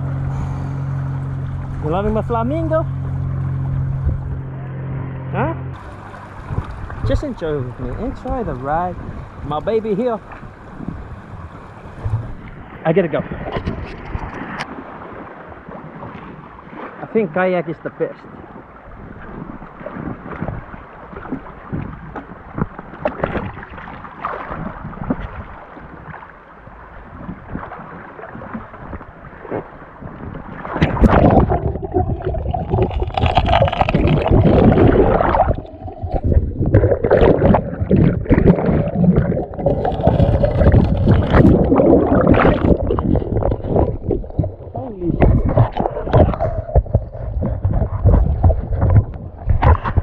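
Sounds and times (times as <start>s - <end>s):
creek water splashing and gurgling: 0.0s - 50.0s.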